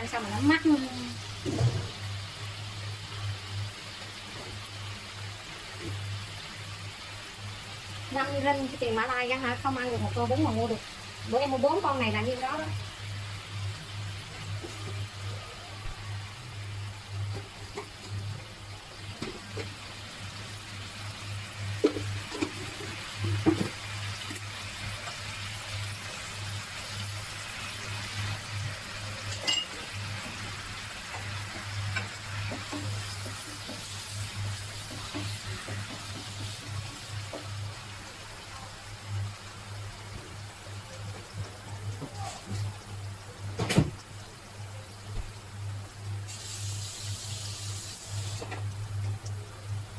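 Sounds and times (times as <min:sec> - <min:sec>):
food sizzling in a wok: 0:00.0 - 0:49.9.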